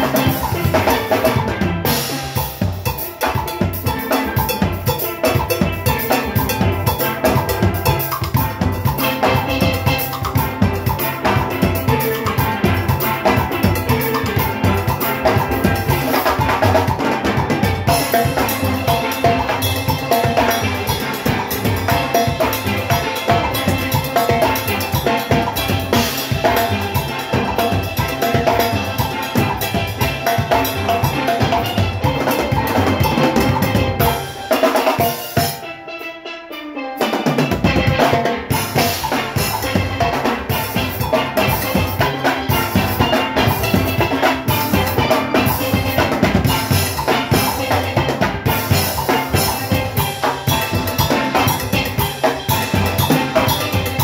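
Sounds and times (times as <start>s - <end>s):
drum kit and metal percussion: 0.0s - 54.0s
steel pans playing: 0.0s - 54.0s.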